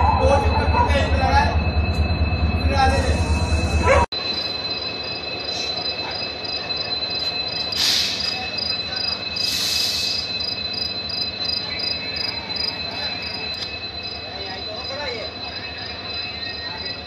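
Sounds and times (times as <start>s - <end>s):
crickets chirping: 0.0s - 17.0s
pulsing insect call: 0.0s - 17.0s.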